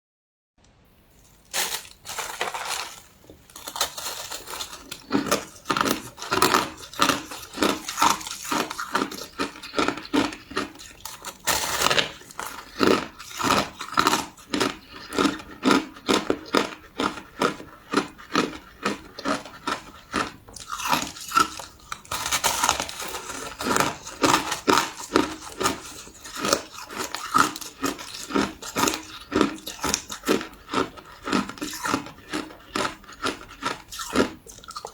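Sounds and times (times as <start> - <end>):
ice crunching being chewed: 1.1 - 34.9.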